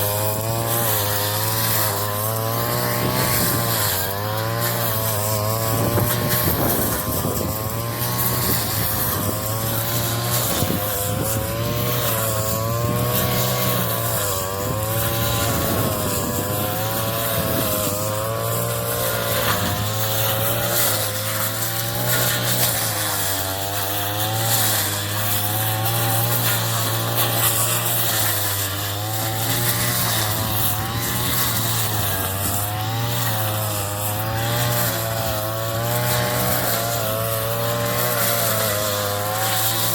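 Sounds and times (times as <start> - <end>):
straw chopper engine running: 0.0 - 39.9.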